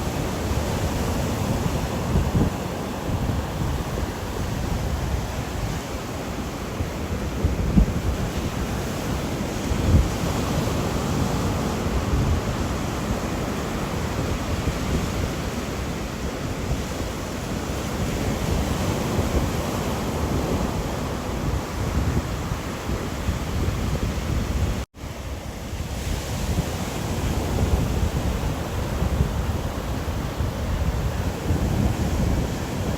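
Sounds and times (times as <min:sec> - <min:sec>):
wind: 0:00.0 - 0:32.9.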